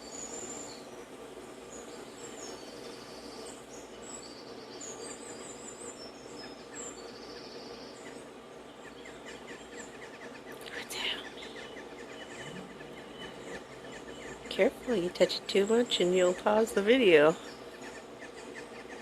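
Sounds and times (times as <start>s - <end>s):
steady low hum: 0.0s - 19.0s
small birds chirping from speaker: 1.7s - 19.0s.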